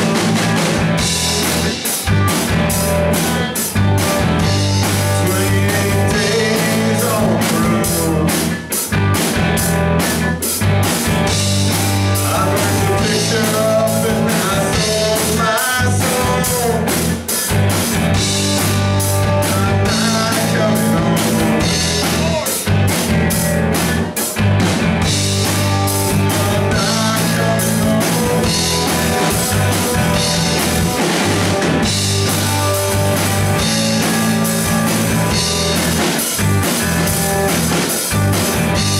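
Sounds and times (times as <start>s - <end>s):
drum kit steady beat: 0.0s - 38.9s
electric guitars: 0.0s - 38.9s.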